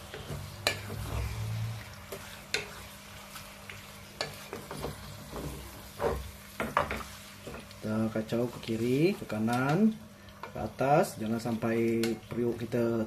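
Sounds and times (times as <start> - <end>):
light sizzle: 0.0 - 13.0.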